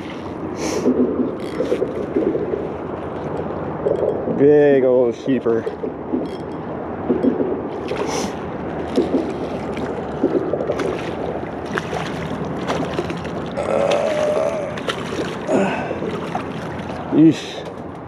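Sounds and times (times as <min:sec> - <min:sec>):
water sloshing: 0:00.0 - 0:18.0
small clicks and splashes: 0:00.8 - 0:04.4, 0:05.5 - 0:18.0.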